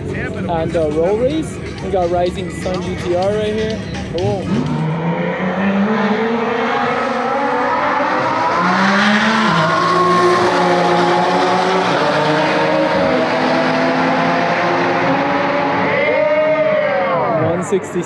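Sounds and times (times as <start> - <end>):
race car engines accelerating: 0.0 - 18.0.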